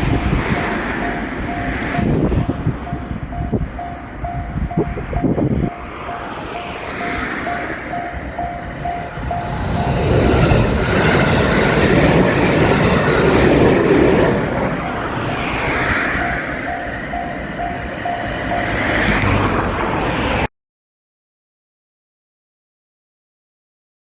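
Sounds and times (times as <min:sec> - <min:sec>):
railroad crossing electronic bell: 0:00.0 - 0:20.5
train wheels on rails: 0:00.0 - 0:20.5.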